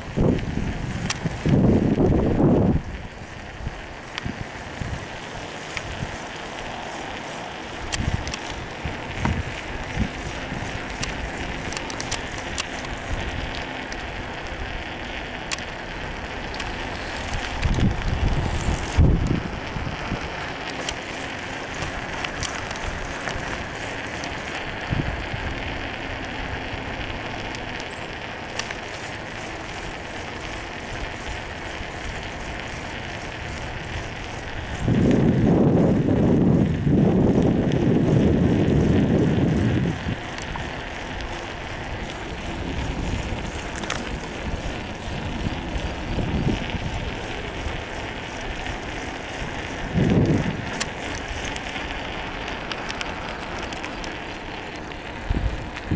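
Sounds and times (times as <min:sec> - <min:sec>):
bicycle tyres rolling on asphalt: 0:00.0 - 0:55.9
small rattling clicks: 0:04.0 - 0:25.0, 0:26.0 - 0:55.9.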